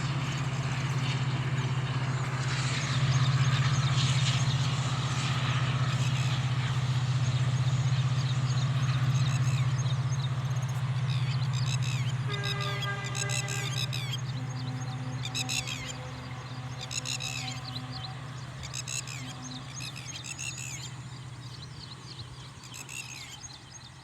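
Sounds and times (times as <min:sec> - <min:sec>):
steady low hum: 0:00.0 - 0:22.7
small birds chirping: 0:00.0 - 0:24.0.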